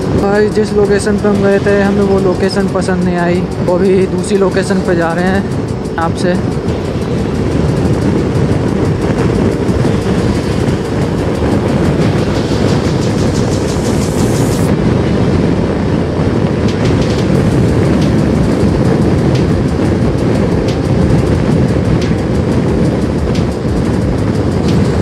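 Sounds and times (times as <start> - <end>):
motorcycle engine: 0.0 - 25.0
road rumble: 0.0 - 25.0
wind rush: 0.0 - 25.0.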